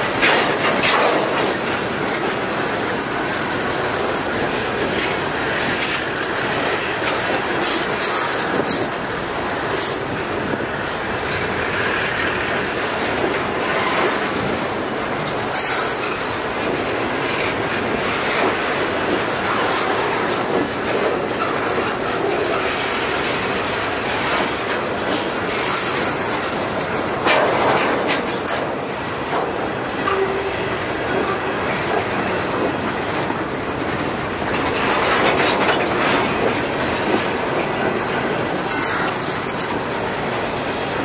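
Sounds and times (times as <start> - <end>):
freight train rumbling past: 0.0 - 41.0
wheels clacking over rail joints: 0.0 - 41.0.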